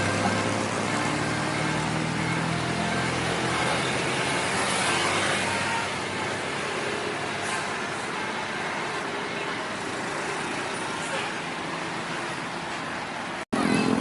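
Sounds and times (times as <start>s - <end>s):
bus engine drone: 0.0s - 14.0s
road noise rushing: 0.0s - 14.0s.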